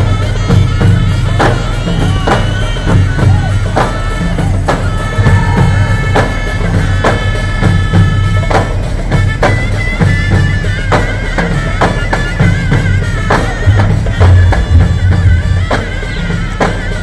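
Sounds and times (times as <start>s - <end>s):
heavy steady drum beat: 0.0s - 17.0s
reedy wind instrument melody: 0.0s - 17.0s.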